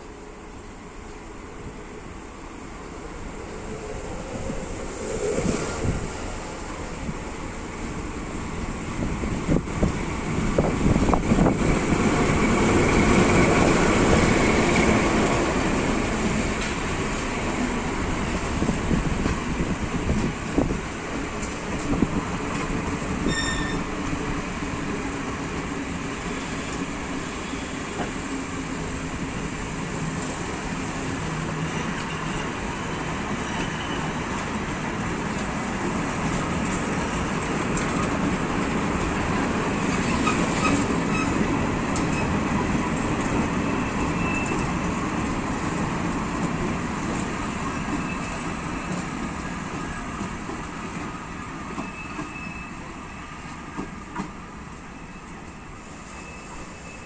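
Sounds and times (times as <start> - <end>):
train wheels clattering over rails: 4.5 - 52.6.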